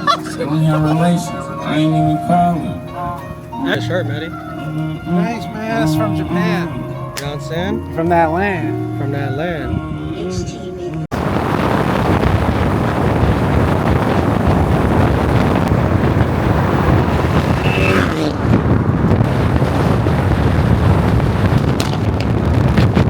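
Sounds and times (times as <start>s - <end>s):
car engine and road noise: 0.0s - 9.0s, 11.0s - 23.0s
wind buffeting microphone: 0.0s - 23.0s.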